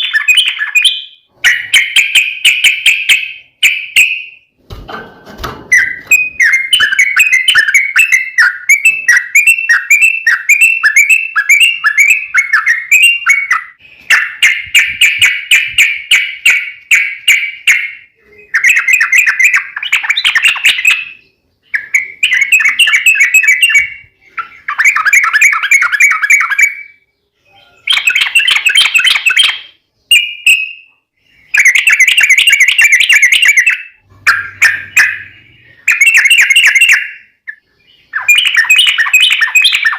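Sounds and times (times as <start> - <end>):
bulbul song: 5.7 - 39.9.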